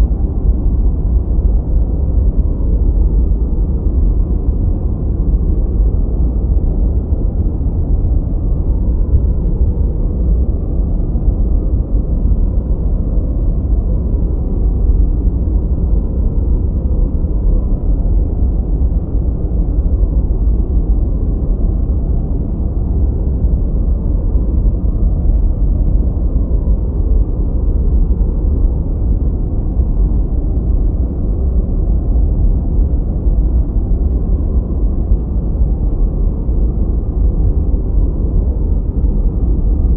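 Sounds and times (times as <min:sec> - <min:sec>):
constant deep rumble: 0:00.0 - 0:39.9.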